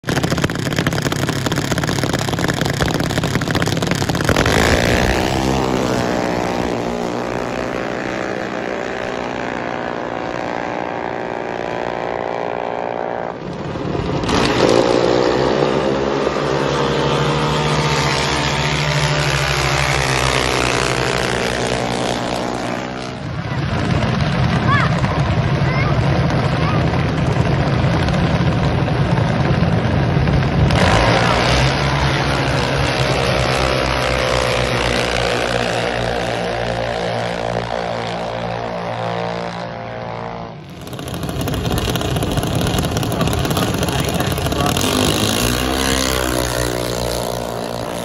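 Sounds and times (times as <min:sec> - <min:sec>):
dragster engines accelerating: 0:00.0 - 0:48.0.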